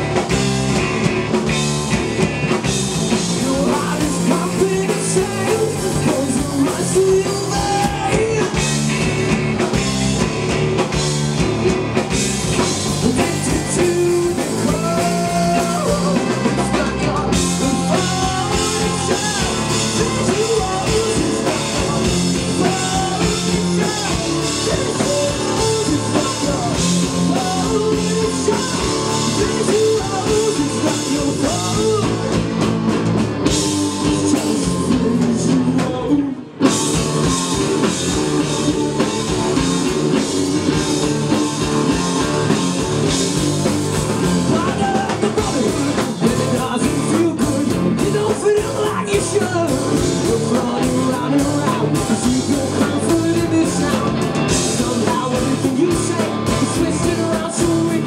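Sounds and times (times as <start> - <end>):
live rock band playing: 0.0 - 58.0
lead vocal singing: 2.7 - 32.8, 33.4 - 58.0.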